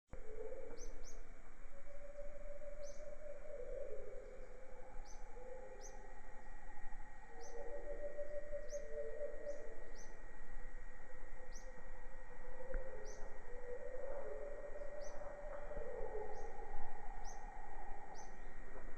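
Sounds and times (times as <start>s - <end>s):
high downward-sweeping bird chirps: 0.2s - 6.4s, 7.3s - 10.2s, 11.4s - 18.6s
low bird warbling: 0.2s - 18.8s.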